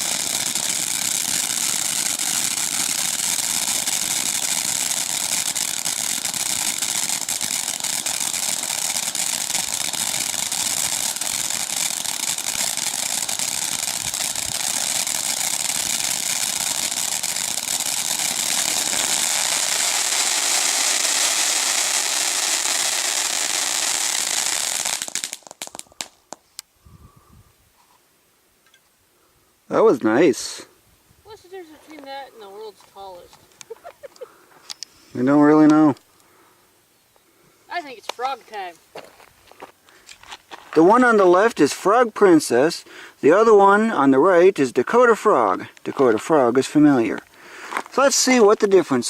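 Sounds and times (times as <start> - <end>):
ground fountain firework hissing: 0.0 - 26.7, 29.2 - 38.8, 41.0 - 49.0.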